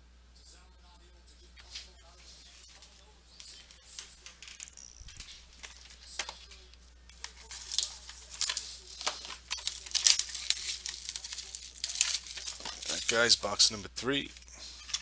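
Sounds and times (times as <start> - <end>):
plastic wrapping crinkling and tearing: 2.7 - 15.0.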